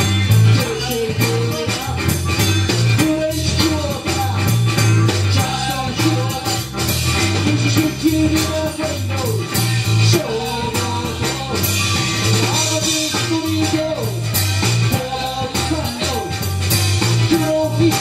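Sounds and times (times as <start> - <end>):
drum kit beat: 0.0 - 18.0
electric bass: 0.0 - 18.0
electric guitar: 0.0 - 18.0
man singing: 0.0 - 18.0.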